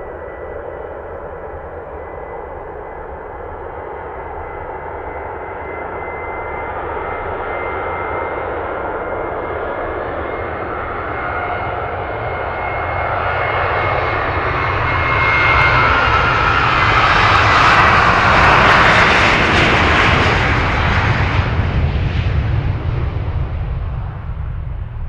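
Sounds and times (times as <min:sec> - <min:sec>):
jet engines passing: 0:00.0 - 0:25.0.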